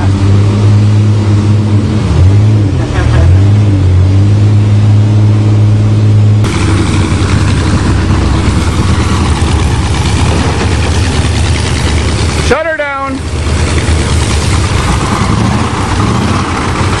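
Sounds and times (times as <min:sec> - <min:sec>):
bus engine droning at high revs: 0:00.0 - 0:17.0
engines straining at full throttle: 0:00.0 - 0:17.0.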